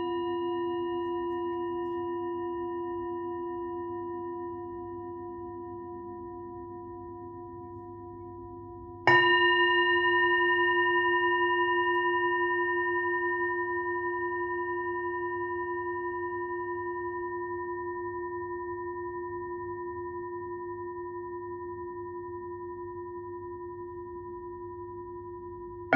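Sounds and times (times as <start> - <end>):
singing bowl ringing: 0.0 - 25.9.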